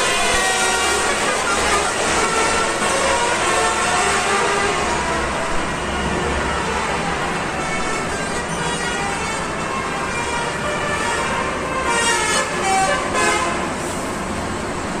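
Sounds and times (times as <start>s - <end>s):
bus musical horn playing notes: 0.0s - 14.0s
engine and road noise: 0.0s - 15.0s.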